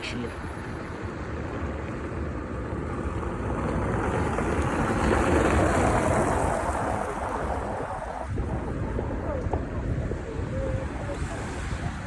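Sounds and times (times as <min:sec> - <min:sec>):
vehicle passing on wet street: 0:00.4 - 0:12.0.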